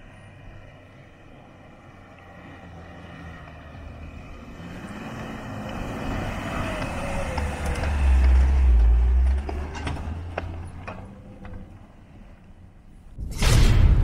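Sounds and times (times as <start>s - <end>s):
vehicle engine and tyres on dirt: 0.0s - 14.0s.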